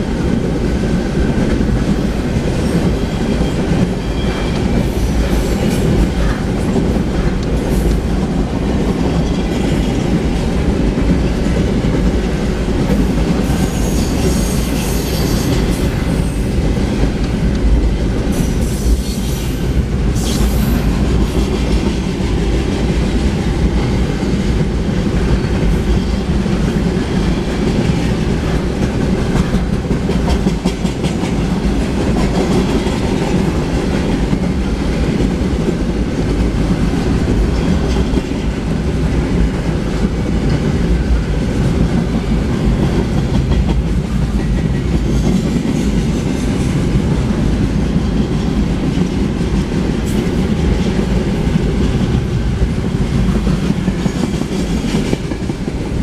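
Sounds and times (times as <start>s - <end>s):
train cars rumbling on rails: 0.0s - 56.0s.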